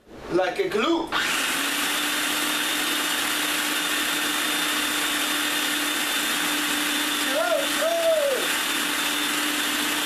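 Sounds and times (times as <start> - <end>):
food processor running: 1.2 - 10.0.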